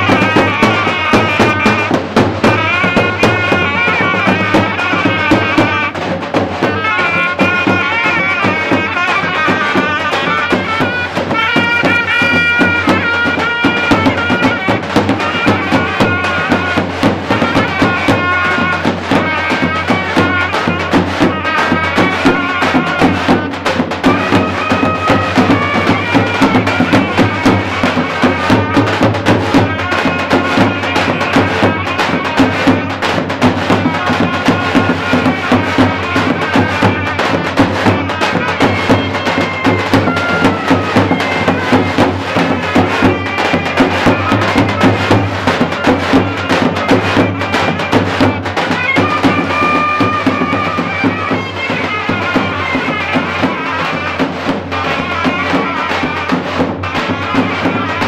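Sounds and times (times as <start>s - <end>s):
bass drum beats: 0.0s - 58.0s
shrill reed pipe melody: 0.0s - 58.0s.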